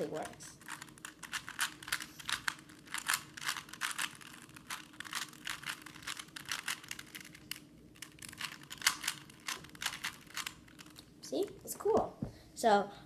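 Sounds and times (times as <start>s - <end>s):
puzzle cube clicking and rattling: 0.0s - 11.6s.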